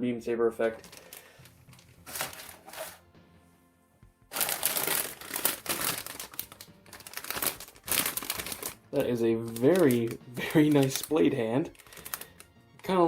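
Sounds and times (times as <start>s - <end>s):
plastic bags crinkling: 0.8s - 3.0s, 4.3s - 13.0s.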